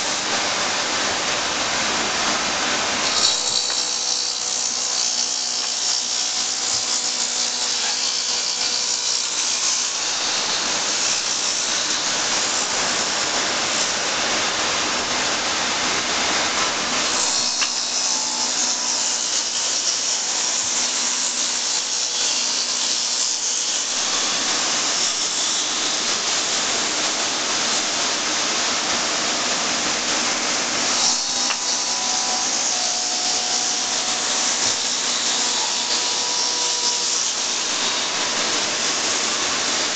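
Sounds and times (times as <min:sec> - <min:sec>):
lathe cutters hissing on wood: 0:00.0 - 0:39.9.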